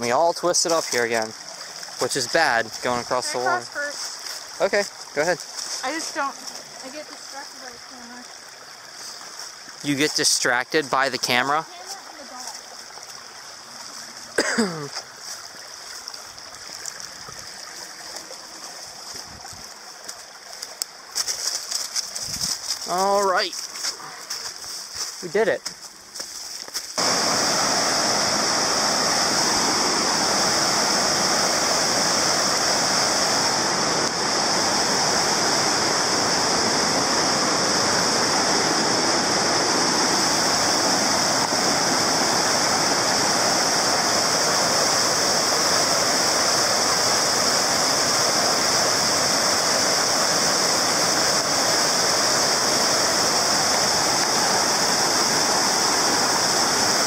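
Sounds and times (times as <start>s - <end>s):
water rushing over rocks: 0.0s - 26.2s, 26.8s - 57.0s.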